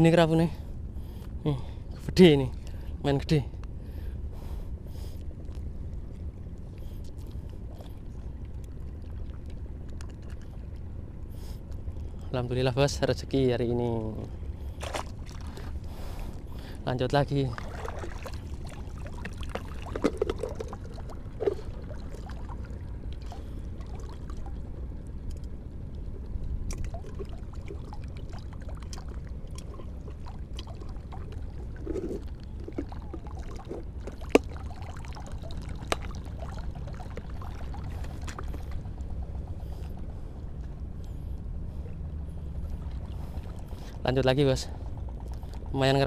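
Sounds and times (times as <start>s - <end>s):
steady low rumble: 0.0s - 46.0s
seawater sloshing and trickling: 4.8s - 46.0s.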